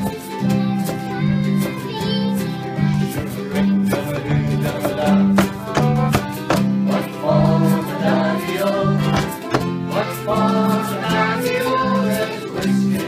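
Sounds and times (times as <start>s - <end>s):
accordion bass: 0.0s - 13.0s
harmonica: 0.0s - 13.0s
ukulele strumming: 0.0s - 13.0s.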